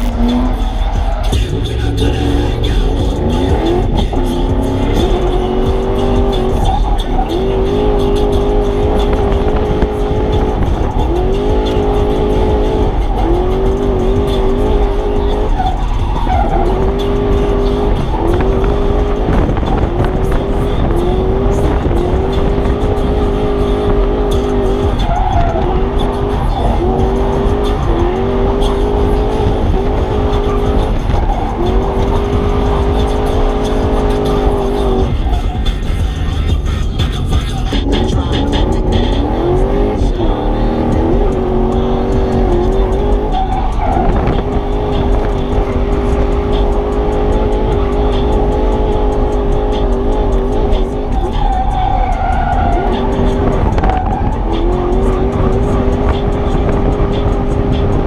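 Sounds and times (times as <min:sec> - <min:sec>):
car engine revving: 0:00.0 - 0:58.0
tyres squealing and skidding: 0:00.0 - 0:58.0.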